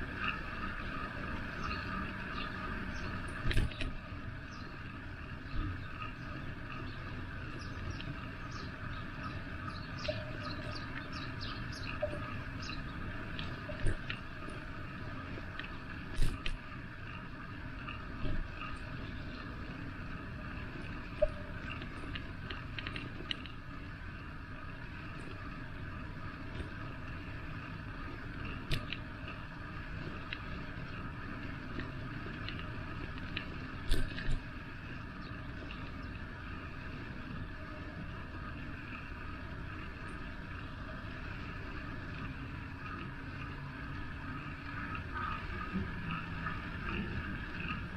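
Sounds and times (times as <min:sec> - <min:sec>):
bicycle rolling road noise: 0:00.0 - 0:47.9.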